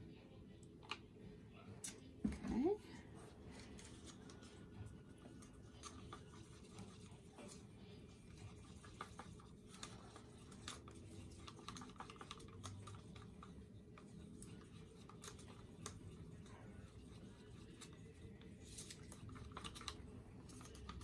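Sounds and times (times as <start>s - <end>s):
stick stirring paint in paper cup: 3.2s - 21.0s.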